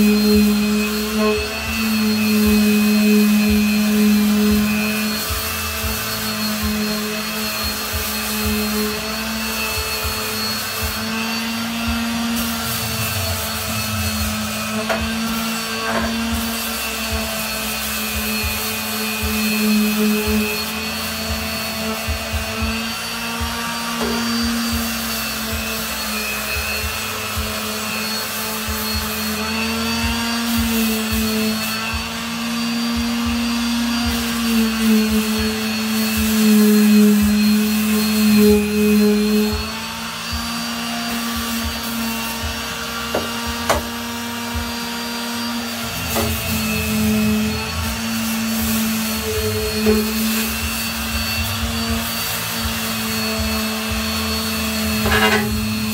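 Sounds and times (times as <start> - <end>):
electric power sander grinding metal: 0.0 - 55.9.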